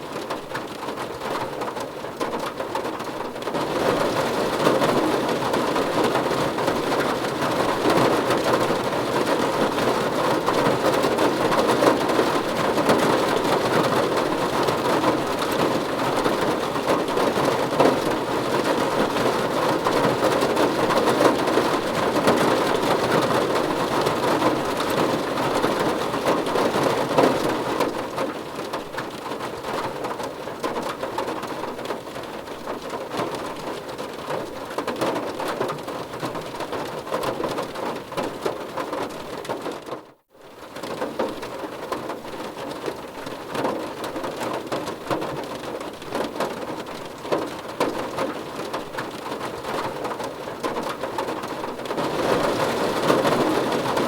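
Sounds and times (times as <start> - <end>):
rain on a car roof: 0.0 - 54.0.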